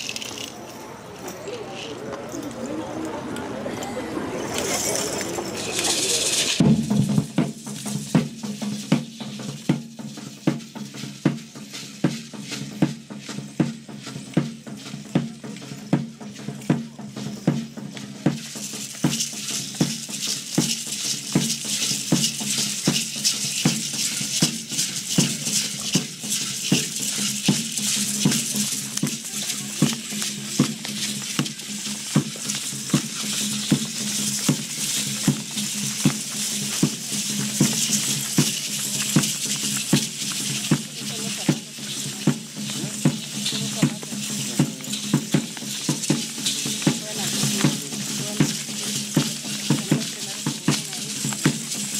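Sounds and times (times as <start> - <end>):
rattles shaking: 0.0 - 3.4, 4.3 - 51.9
drum beating steady pulse: 6.5 - 51.9.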